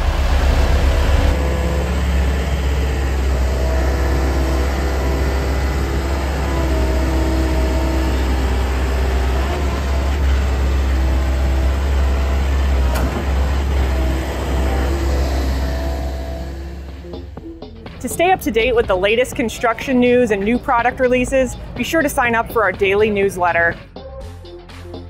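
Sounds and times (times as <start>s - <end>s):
excavator diesel engine: 0.0s - 25.0s.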